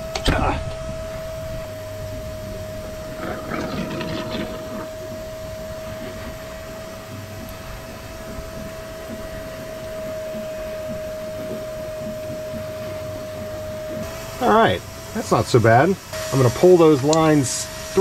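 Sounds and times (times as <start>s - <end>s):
vacuum cleaner whining: 0.0s - 18.0s.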